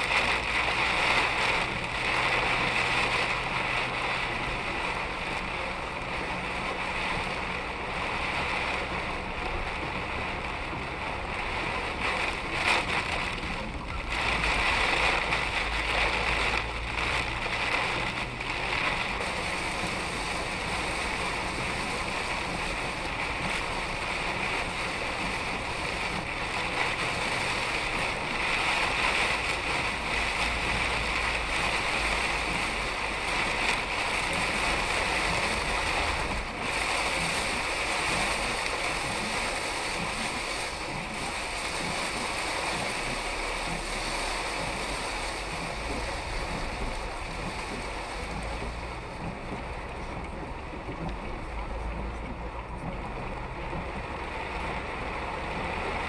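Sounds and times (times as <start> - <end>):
heavy rain: 0.0 - 56.0
tyre spray on wet road: 0.0 - 56.0.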